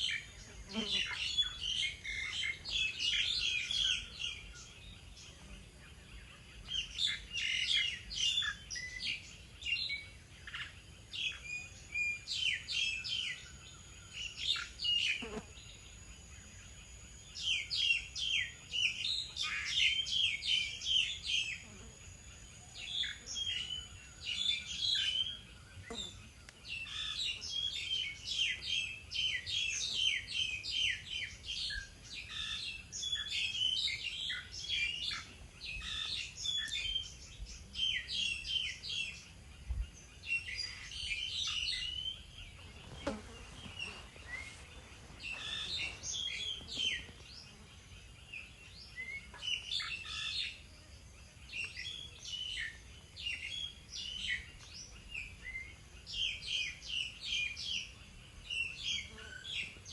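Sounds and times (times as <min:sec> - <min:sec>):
small birds chirping and twittering: 0:00.0 - 0:59.9.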